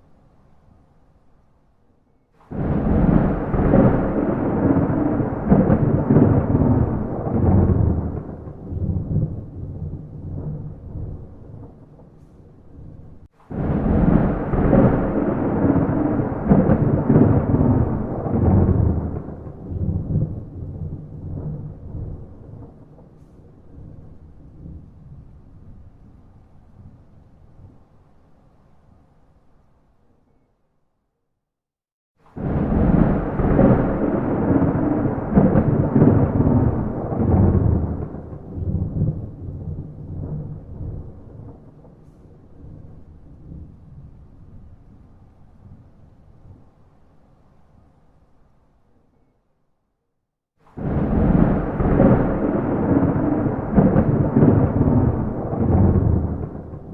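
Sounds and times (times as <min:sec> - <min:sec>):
thunder rumbling: 0:02.4 - 0:28.0, 0:32.2 - 0:46.8, 0:50.6 - 0:56.9.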